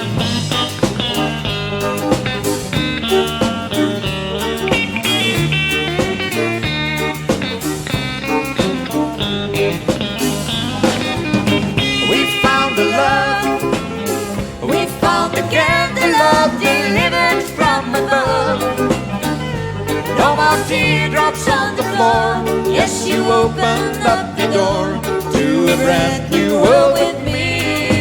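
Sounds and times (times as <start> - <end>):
country band playing: 0.0 - 28.0
lead guitar: 0.0 - 28.0.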